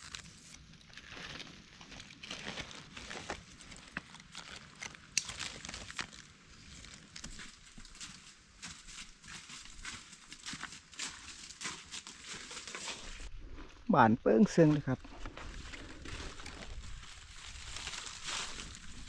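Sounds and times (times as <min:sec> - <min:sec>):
dry leaves rustling and crackling: 0:00.0 - 0:13.7, 0:14.6 - 0:19.0.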